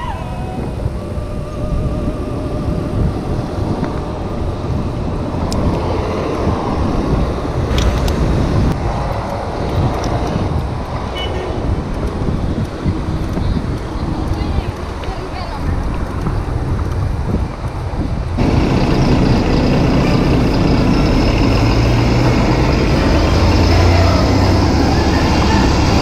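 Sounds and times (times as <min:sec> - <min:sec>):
road and car noise: 0:00.0 - 0:26.0
wind rumbling on microphone: 0:00.0 - 0:26.0.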